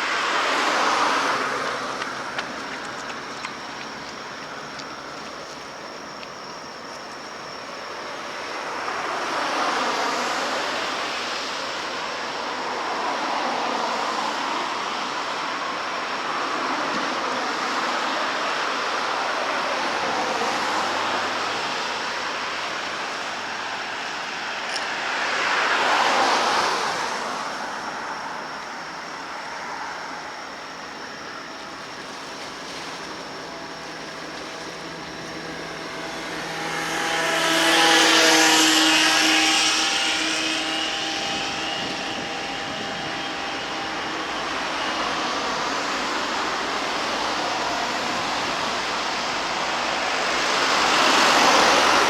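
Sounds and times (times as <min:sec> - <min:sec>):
vehicles passing by: 0:08.1 - 0:52.0.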